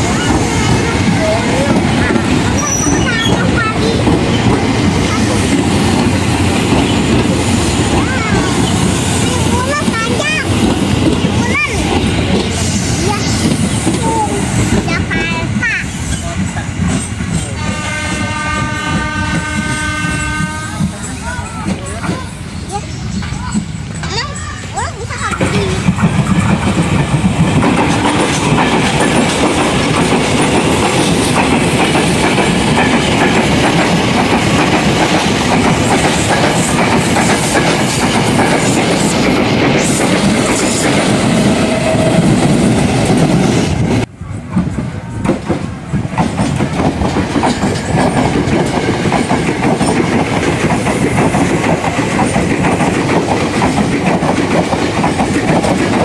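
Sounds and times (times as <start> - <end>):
electric trains passing: 0.0 - 56.0.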